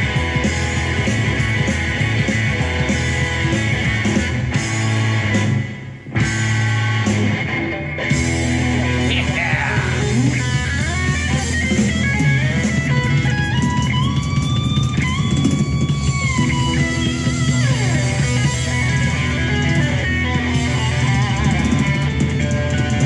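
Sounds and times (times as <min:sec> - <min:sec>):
bass guitar: 0:00.0 - 0:23.0
electric guitar solo: 0:00.0 - 0:23.0.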